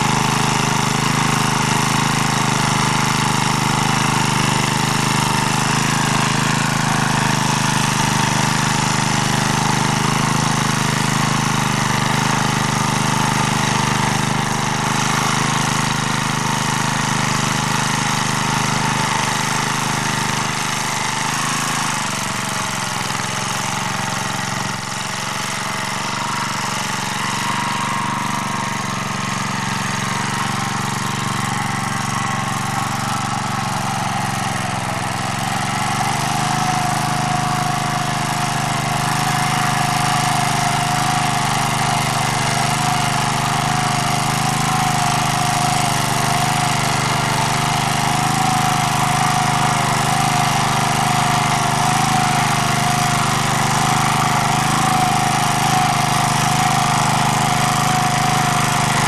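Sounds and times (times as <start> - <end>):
walk-behind tractor engine running: 0.0 - 59.0.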